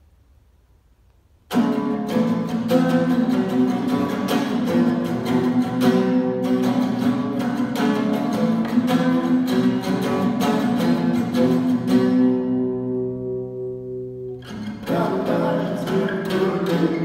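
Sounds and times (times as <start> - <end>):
acoustic guitar strumming: 1.4 - 17.0.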